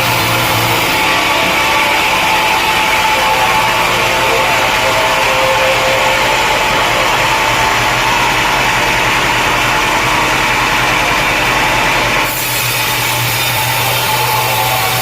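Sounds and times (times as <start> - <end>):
saw cutting through log: 0.0 - 15.0
sawmill engine drone: 0.0 - 15.0.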